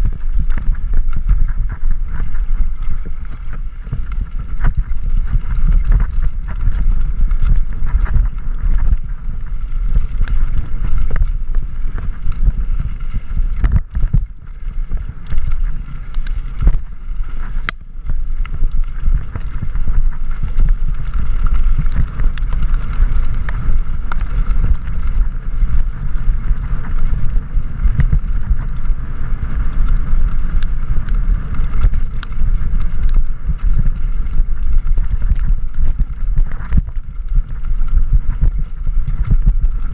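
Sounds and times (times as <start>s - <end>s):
bike rattling over stones: 0.0s - 39.9s
wind buffeting microphone: 0.0s - 39.9s.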